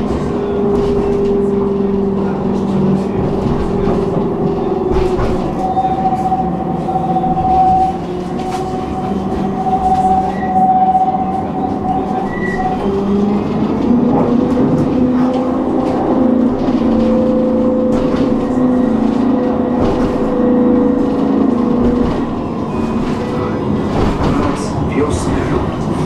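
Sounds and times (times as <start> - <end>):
tram drive hum: 0.0 - 26.0
tram whine: 0.0 - 26.0
wheels clicking on rails: 0.0 - 26.0.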